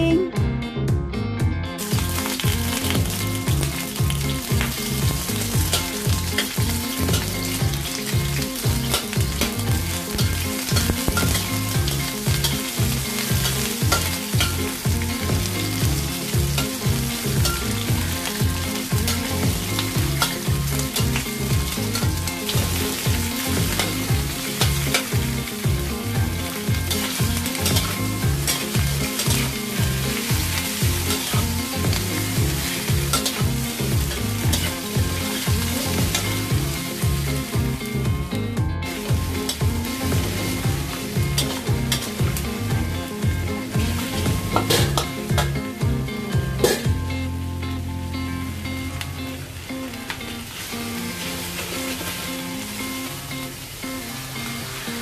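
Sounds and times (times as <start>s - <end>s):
food sizzling in hot oil: 1.8s - 55.0s.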